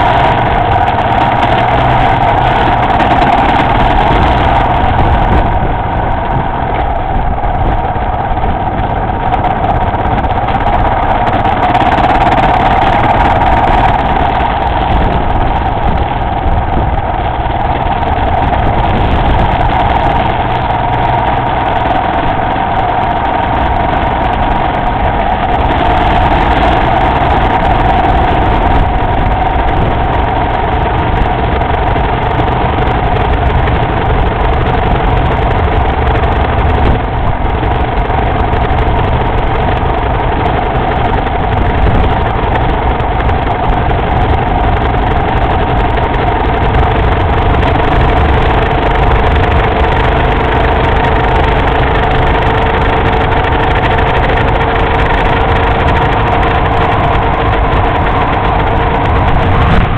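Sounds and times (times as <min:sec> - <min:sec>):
motorcycle engine drone: 0:00.0 - 0:59.9
wind rumble on microphone: 0:00.0 - 0:59.9.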